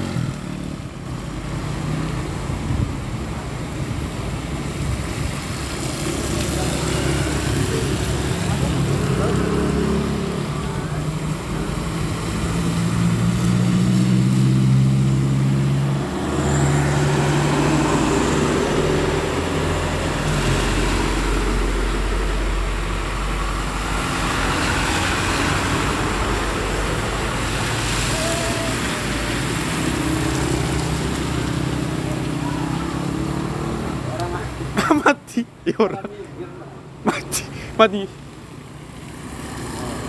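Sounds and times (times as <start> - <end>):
tyres splashing through water: 0.0 - 40.0.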